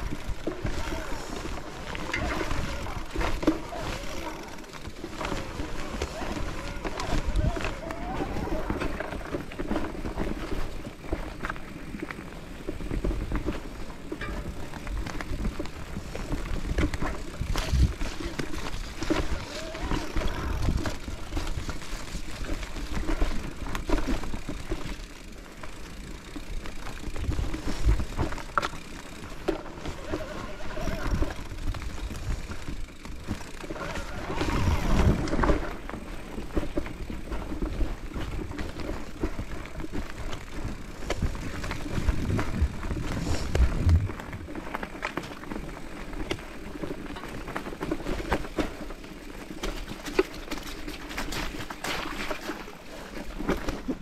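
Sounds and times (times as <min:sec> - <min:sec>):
bike thumps and rattles: 0:00.0 - 0:54.0
tyre and trail noise: 0:00.0 - 0:54.0.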